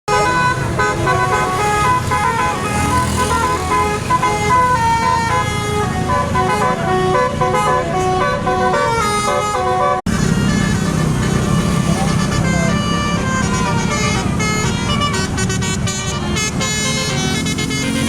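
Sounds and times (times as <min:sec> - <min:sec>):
multi-tone bus horn tune: 0:00.1 - 0:18.0.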